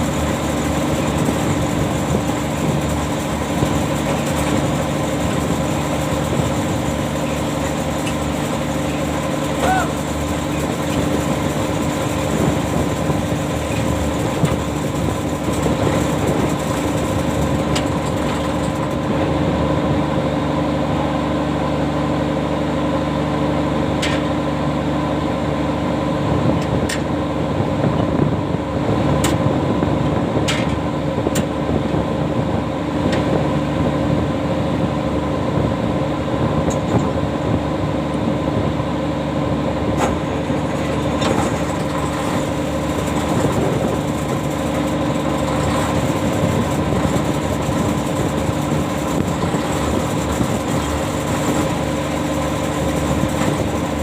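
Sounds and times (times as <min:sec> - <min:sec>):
deck machinery humming: 0:00.0 - 0:54.0.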